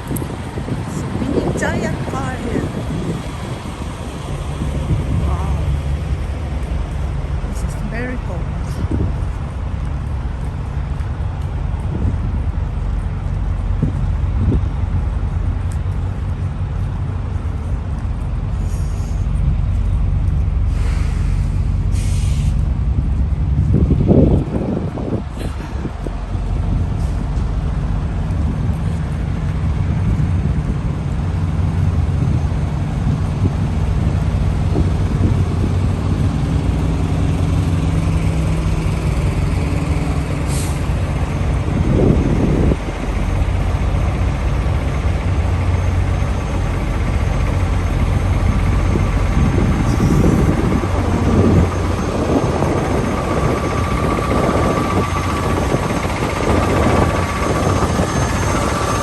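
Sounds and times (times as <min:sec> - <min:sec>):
diesel truck engines idling: 0:00.0 - 0:59.0.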